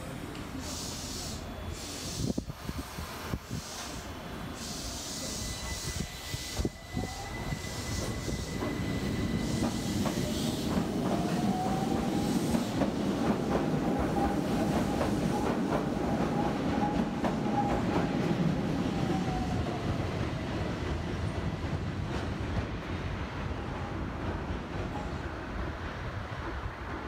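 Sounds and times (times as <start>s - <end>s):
train rumble: 1.8s - 27.0s.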